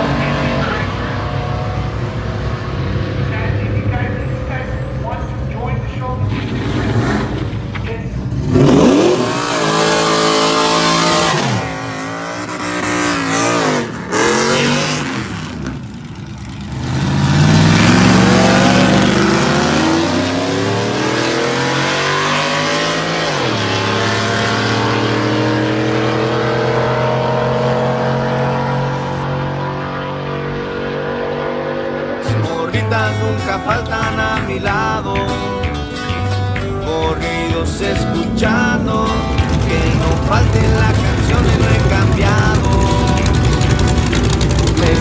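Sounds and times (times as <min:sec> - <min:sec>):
racing engines revving: 0:00.0 - 0:45.0.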